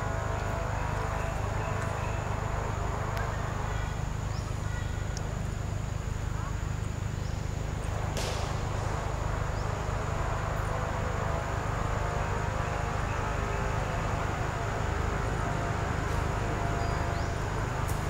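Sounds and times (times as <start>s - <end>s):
faint engine hum: 0.0s - 18.0s.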